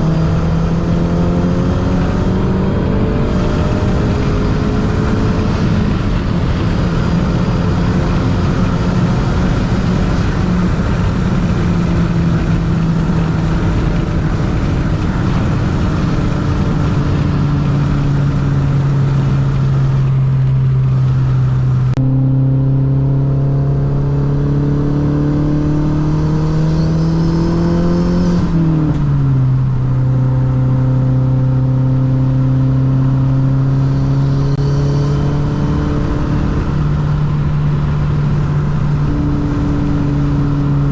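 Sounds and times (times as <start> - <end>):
car engine cruising: 0.0 - 40.9.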